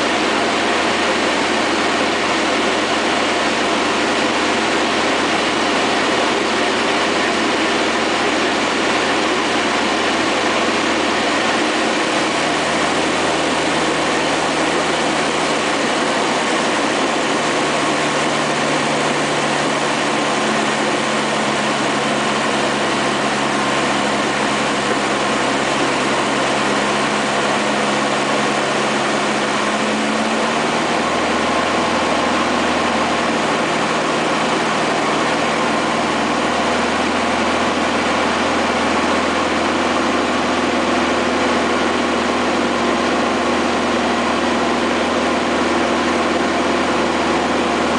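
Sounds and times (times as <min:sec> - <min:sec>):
aircraft engine and propeller: 0:00.0 - 0:47.9
rushing airflow: 0:00.0 - 0:47.9.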